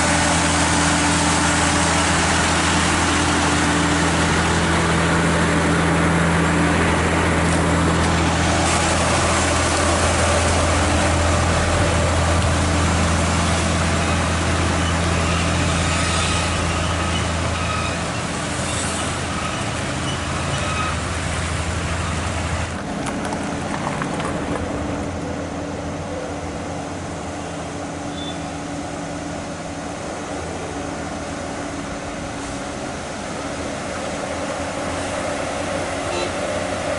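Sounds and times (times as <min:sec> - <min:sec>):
truck diesel engine humming: 0:00.0 - 0:36.9.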